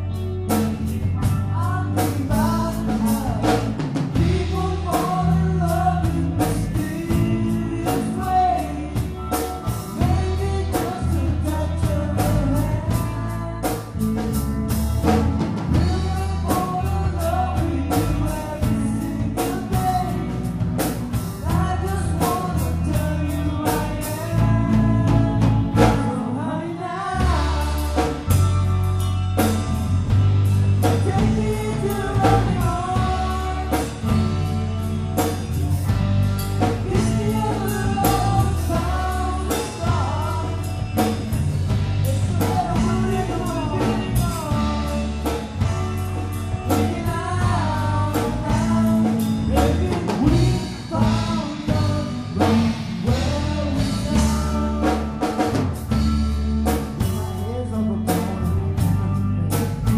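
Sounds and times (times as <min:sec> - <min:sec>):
person singing: 0:00.0 - 0:59.9
rock band playing: 0:00.0 - 0:59.9.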